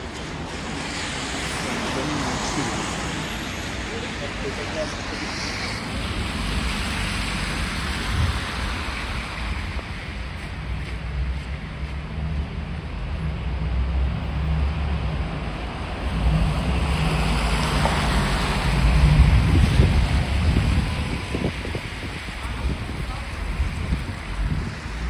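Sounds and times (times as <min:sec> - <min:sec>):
traffic rumble: 0:00.0 - 0:25.0
wind buffeting microphone: 0:02.9 - 0:25.0.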